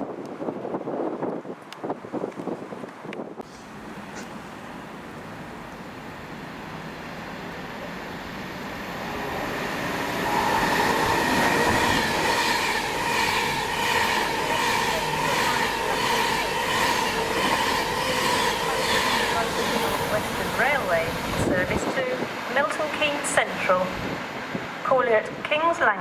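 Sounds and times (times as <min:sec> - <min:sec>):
passenger train whine: 0:03.2 - 0:26.0.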